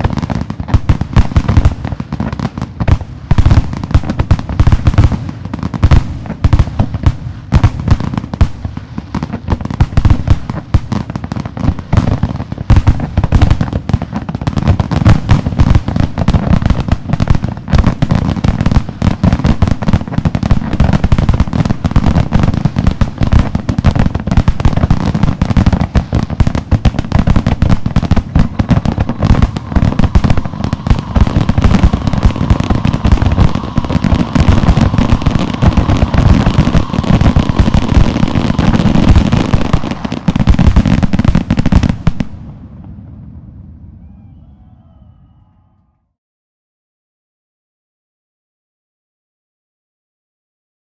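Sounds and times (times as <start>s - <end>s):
fireworks bursting and crackling: 0.0s - 44.2s.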